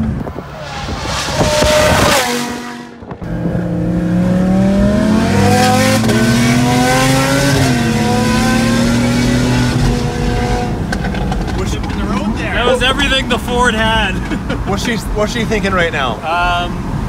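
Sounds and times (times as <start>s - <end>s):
car engine accelerating: 0.0s - 13.8s.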